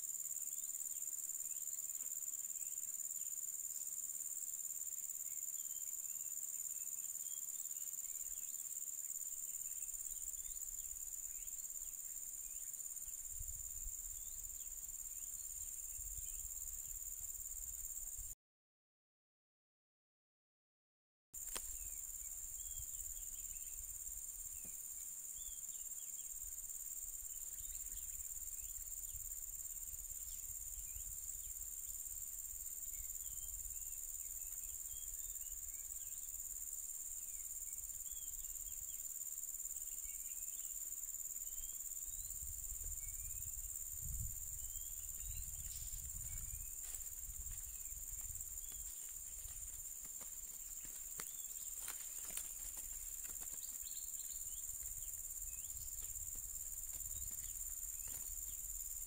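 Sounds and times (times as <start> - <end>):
insects chorus: 0.0 - 18.4, 21.4 - 59.0.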